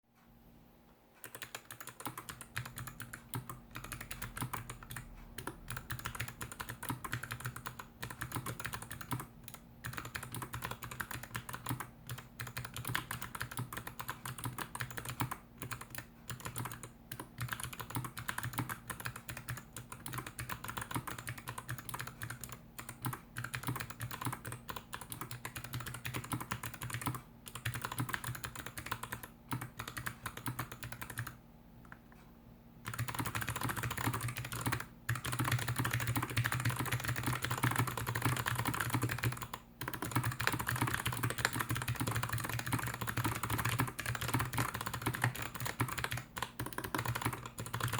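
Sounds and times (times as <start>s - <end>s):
clicky mechanical keyboard typing: 1.2s - 32.0s, 32.8s - 47.9s.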